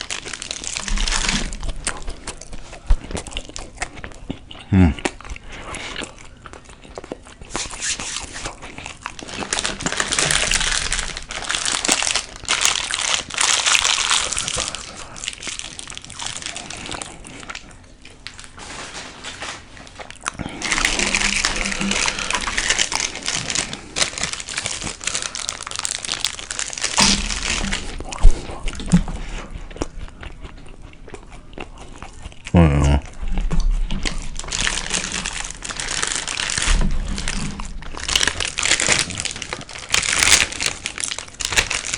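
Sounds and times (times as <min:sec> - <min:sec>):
plastic wrapper crinkling: 0:00.0 - 0:04.2, 0:06.8 - 0:30.1, 0:33.5 - 0:41.9.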